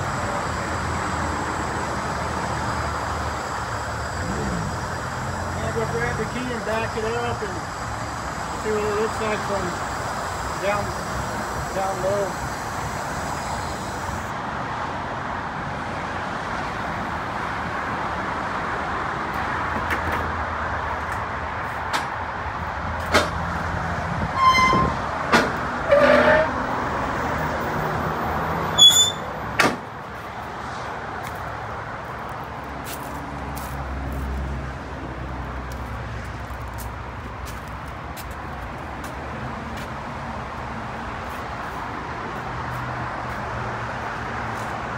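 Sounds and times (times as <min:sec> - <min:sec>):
motor vehicle noise: 0:00.0 - 0:44.9.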